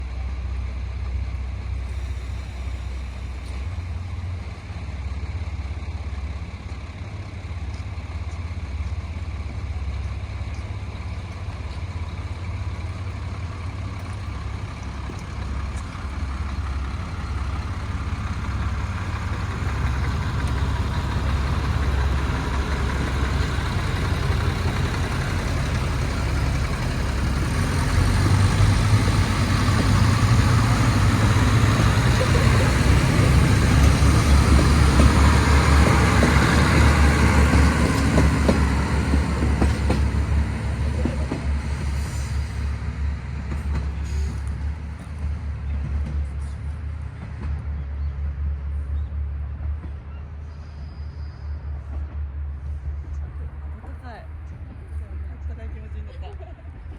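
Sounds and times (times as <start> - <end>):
diesel railcar engine idling: 0.0 - 56.9.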